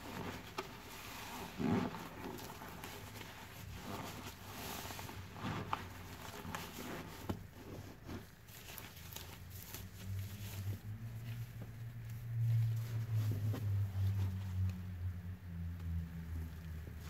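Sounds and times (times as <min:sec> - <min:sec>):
wet sponges squelching: 0:00.0 - 0:17.0.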